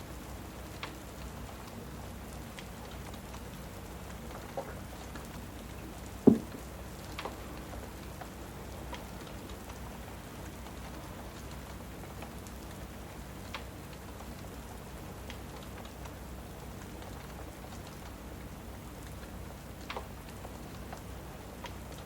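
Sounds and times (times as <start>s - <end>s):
steady rain: 0.0s - 22.0s
fireplace crackling and popping: 0.1s - 22.0s.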